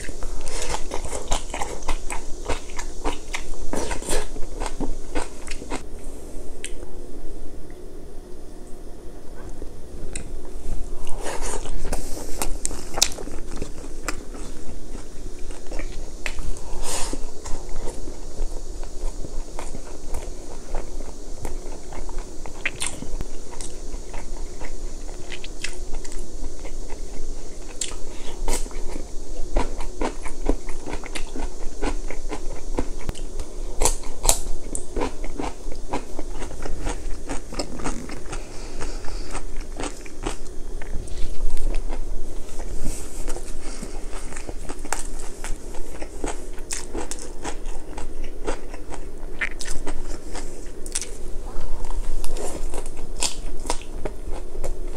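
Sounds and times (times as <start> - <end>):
person chewing food: 0.0 - 6.8, 9.4 - 54.9.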